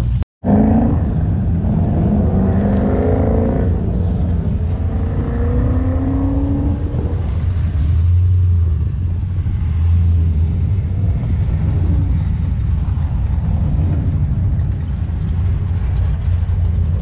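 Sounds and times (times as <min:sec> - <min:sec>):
car engines rumbling: 0:00.0 - 0:17.0.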